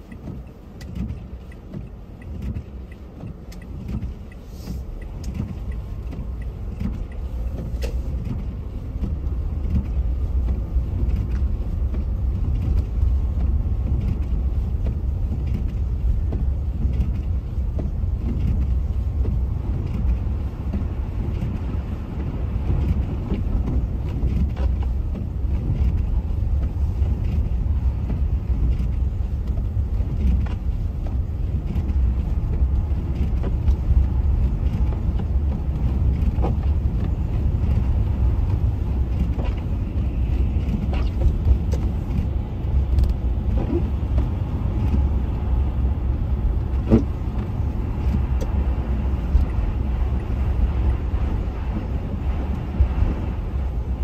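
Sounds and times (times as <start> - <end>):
car road noise rumble: 0.0 - 54.0.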